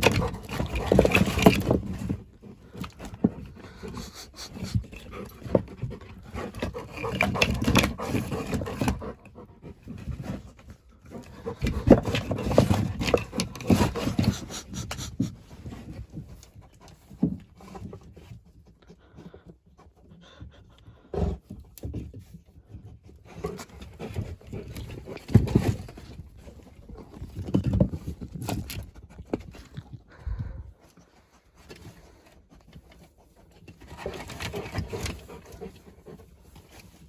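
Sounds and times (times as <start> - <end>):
dog panting: 2.4 - 10.5, 11.1 - 16.0, 16.6 - 25.6, 28.9 - 37.0.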